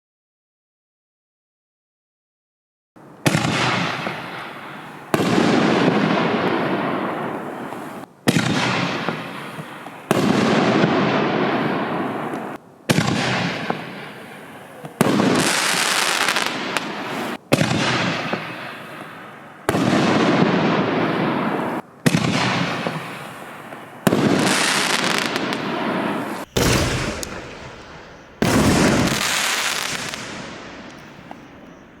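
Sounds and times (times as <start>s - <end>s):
firework shells banging: 3.2s - 32.0s.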